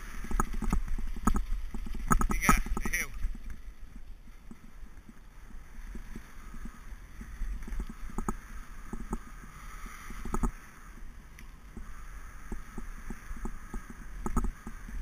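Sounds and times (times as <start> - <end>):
bike rattling over bumps: 0.0 - 15.0
wind rumbling on microphone: 0.0 - 15.0.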